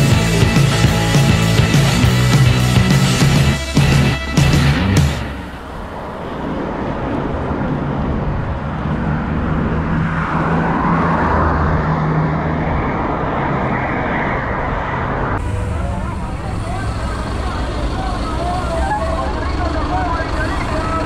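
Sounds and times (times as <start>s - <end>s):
road noise: 0.0s - 21.0s
vehicle engine humming: 0.0s - 21.0s.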